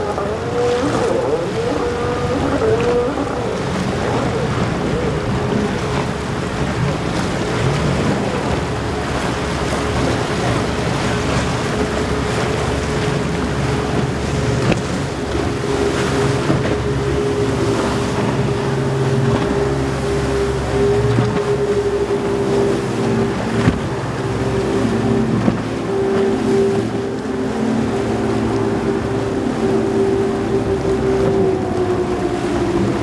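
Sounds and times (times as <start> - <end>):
outboard engines droning: 0.0 - 33.0
spray and choppy water: 0.0 - 33.0
wind on microphone: 0.0 - 33.0.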